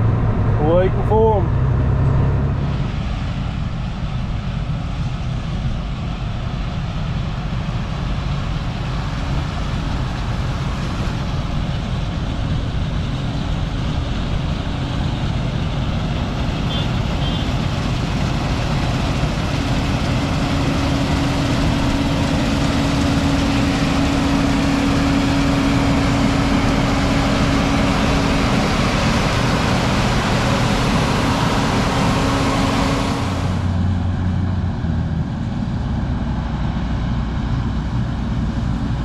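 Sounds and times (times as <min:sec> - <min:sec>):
farm machinery engines running: 0:00.0 - 0:39.0.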